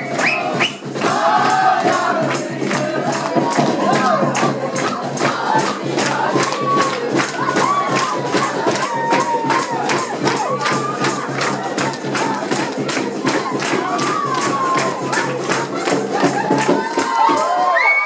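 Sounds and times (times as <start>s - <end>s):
group singing a carol: 0.0s - 17.0s
people clapping a beat: 0.0s - 18.0s.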